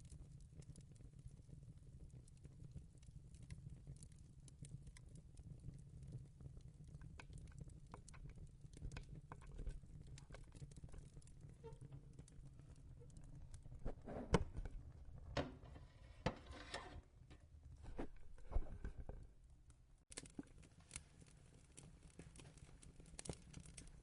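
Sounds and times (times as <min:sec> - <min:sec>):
fireplace crackling: 0:02.3 - 0:24.0.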